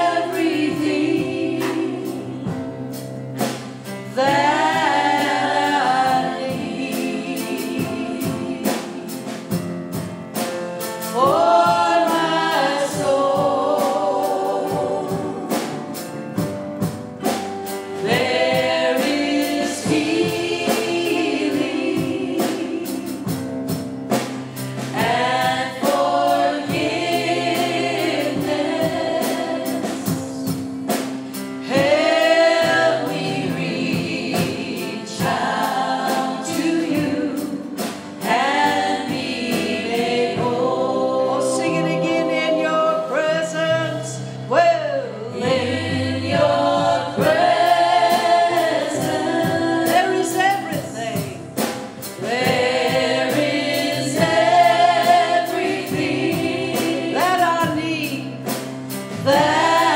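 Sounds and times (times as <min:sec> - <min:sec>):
band accompaniment: 0:00.0 - 0:59.9
gospel choir singing: 0:00.0 - 0:59.9.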